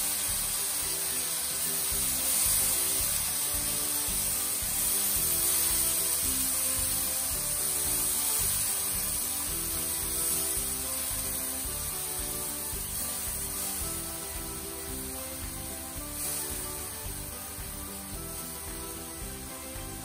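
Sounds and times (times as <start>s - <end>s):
music with short held notes: 0.0s - 20.0s
steady high hiss: 0.0s - 20.0s.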